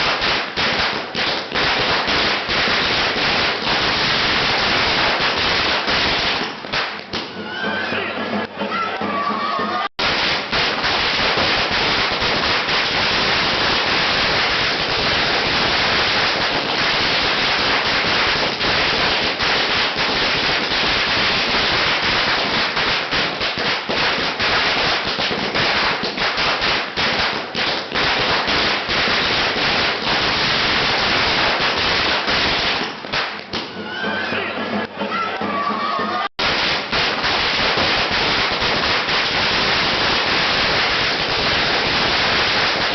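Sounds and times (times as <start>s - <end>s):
firecrackers crackling: 0.0s - 42.9s.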